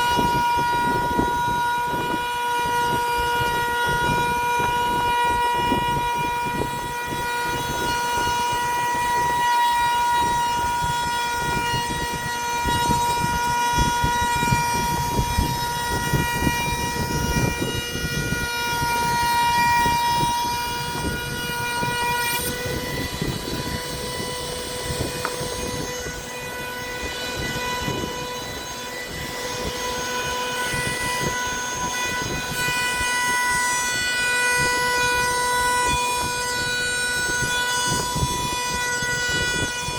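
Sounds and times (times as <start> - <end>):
power tool whining: 0.0 - 39.9
rough cutting noise: 6.5 - 39.9.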